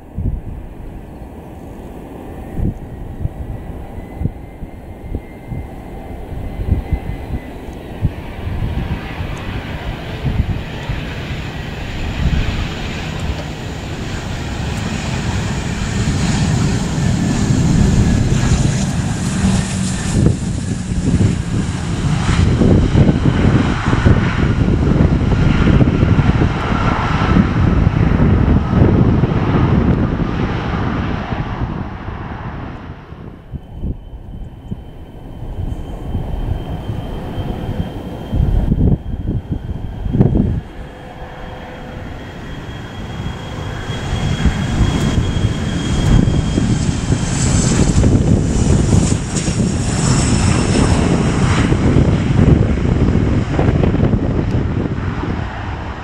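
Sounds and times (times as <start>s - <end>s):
jet landing: 0.0s - 56.0s.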